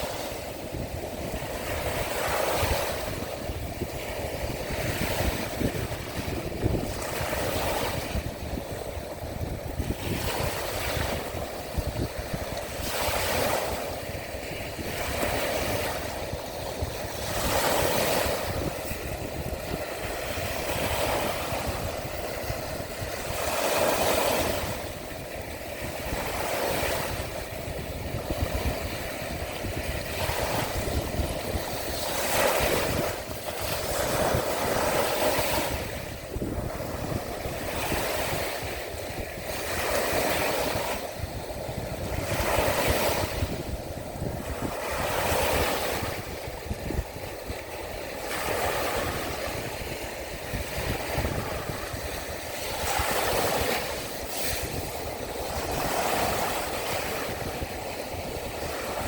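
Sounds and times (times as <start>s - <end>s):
waves washing onto shore: 0.0s - 59.0s
wind rumble on microphone: 0.0s - 59.0s.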